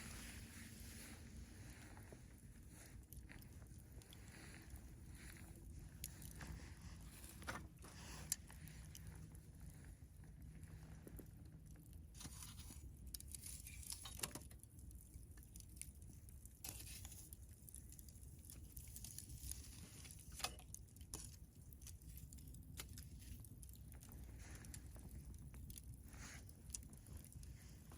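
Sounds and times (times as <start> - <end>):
low steady rumble: 0.0 - 13.8, 14.6 - 27.9
campfire crackling and popping: 1.7 - 27.9.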